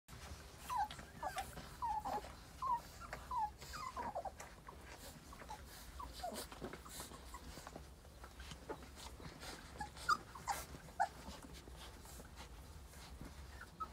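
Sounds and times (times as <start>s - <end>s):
soft clicks and rustling: 0.1s - 13.9s
puppies squeaking and whimpering: 0.2s - 13.9s.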